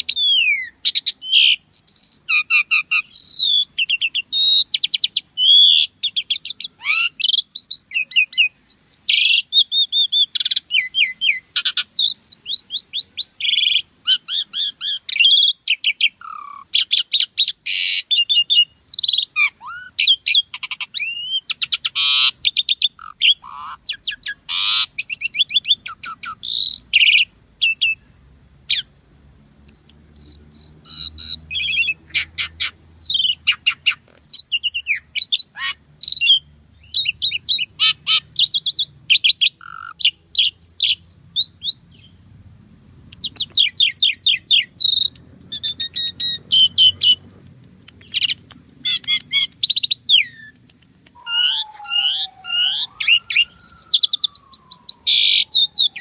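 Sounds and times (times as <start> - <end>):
starling singing: 0.0 - 28.1, 29.7 - 42.3, 43.1 - 56.0.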